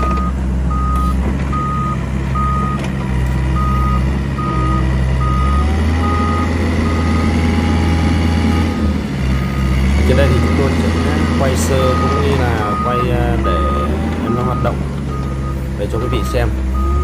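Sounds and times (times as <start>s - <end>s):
beeping reverse alarm: 0.0s - 2.8s, 3.6s - 8.8s, 9.5s - 17.0s
diesel engine running: 0.0s - 17.0s.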